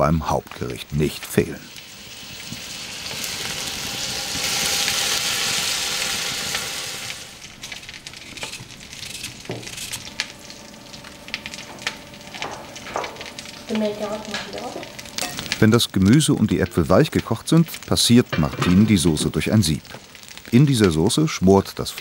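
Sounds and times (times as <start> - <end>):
loud sizzling in a pot: 0.0 - 22.0.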